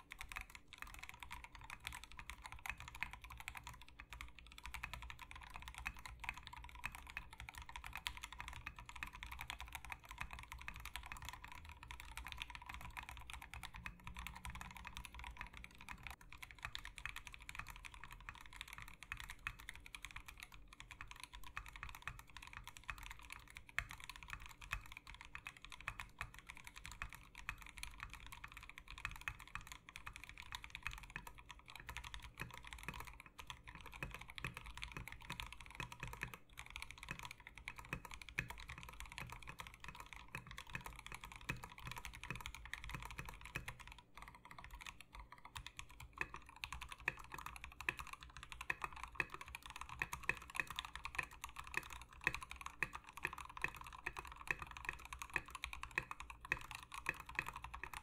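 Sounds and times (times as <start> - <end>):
fast mechanical keyboard typing: 0.0 - 58.0.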